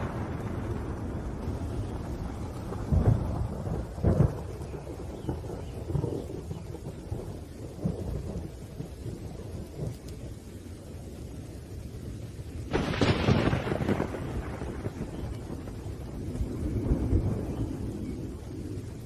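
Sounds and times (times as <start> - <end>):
loud thunderclap: 0.0 - 10.3, 12.6 - 19.0
rolling thunder rumble: 0.0 - 19.0
steady rain: 0.0 - 19.0.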